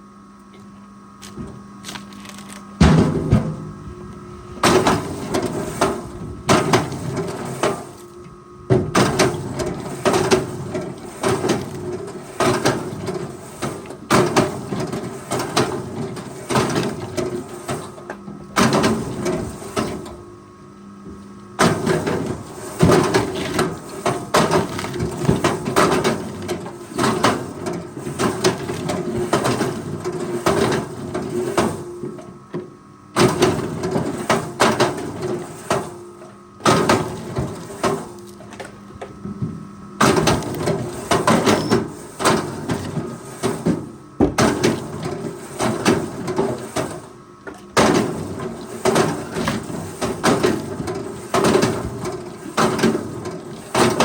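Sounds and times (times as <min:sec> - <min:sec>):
forestry machine knocking and clattering: 0:01.2 - 0:03.8, 0:04.6 - 0:08.0, 0:08.7 - 0:20.2, 0:21.6 - 0:35.9, 0:36.6 - 0:54.0.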